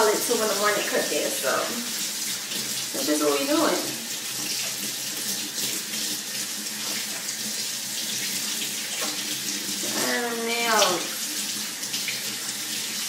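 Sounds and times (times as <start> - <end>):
faucet running into sink: 0.0 - 13.0.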